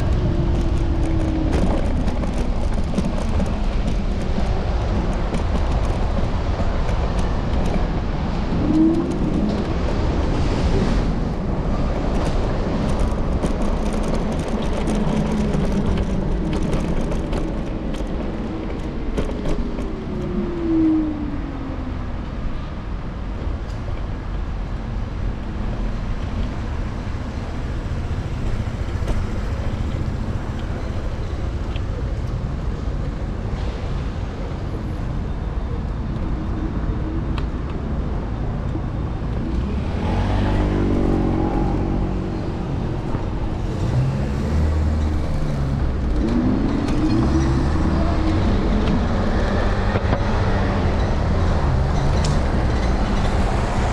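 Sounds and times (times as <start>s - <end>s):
city street traffic: 0.0s - 53.9s
scooter low rumble: 0.0s - 53.9s.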